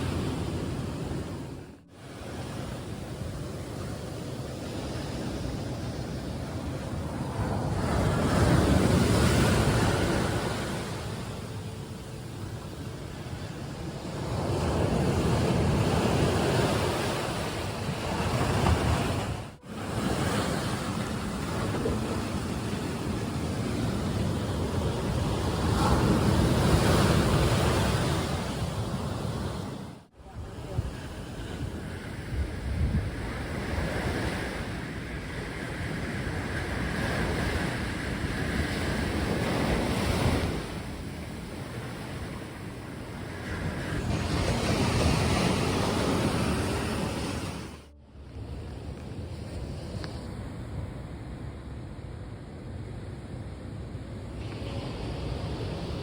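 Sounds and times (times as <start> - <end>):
waves washing onto shore: 0.0 - 51.3, 54.2 - 56.0
wind buffeting microphone: 0.0 - 56.0.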